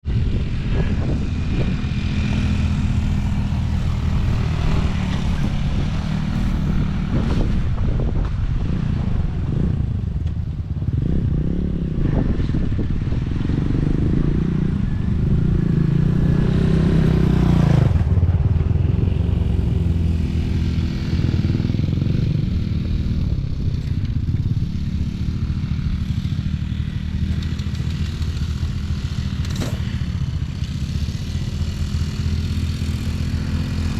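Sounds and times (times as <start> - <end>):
off-road vehicle engine running: 0.0 - 33.9.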